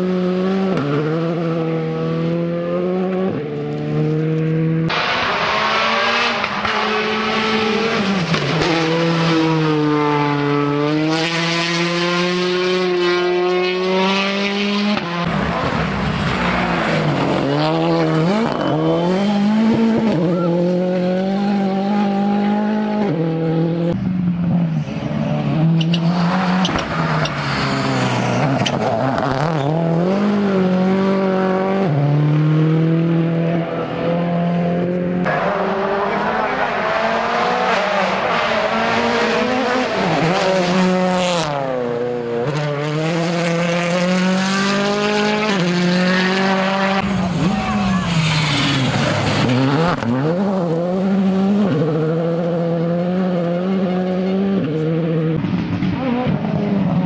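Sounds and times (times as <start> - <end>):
gravel and tyre noise: 0.0 - 57.0
rally car engines revving: 0.0 - 57.0.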